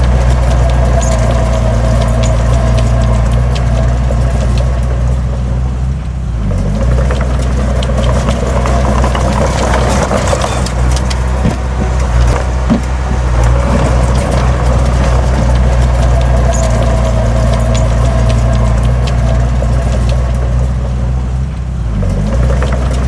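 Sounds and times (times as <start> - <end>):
heavy diesel engine running: 0.0 - 23.0
soil and stone clanking: 0.0 - 23.0.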